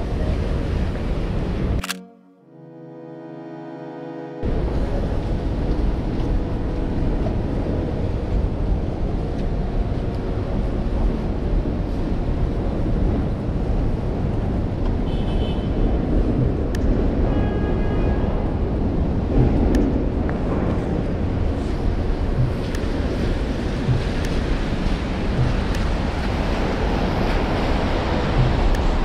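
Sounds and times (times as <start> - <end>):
traffic on wet roads: 0.0 - 1.8, 4.4 - 29.0
wind rumble on microphone: 4.4 - 29.0.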